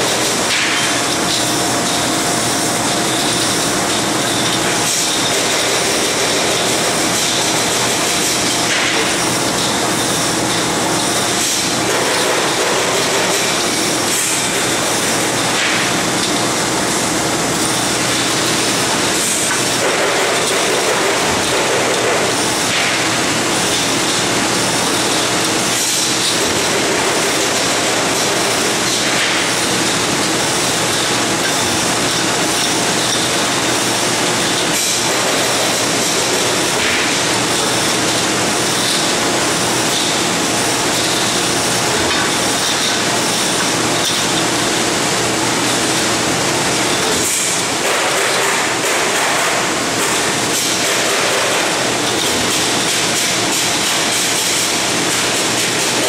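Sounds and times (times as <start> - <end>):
workshop machinery hiss and hum: 0.0 - 56.0.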